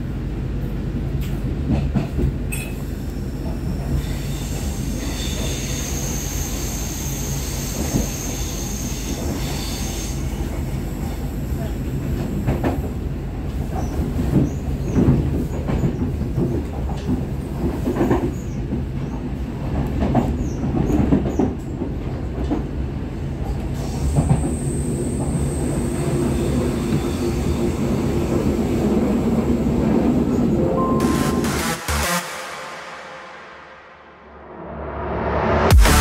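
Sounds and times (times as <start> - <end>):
train running rumble: 0.0 - 33.4.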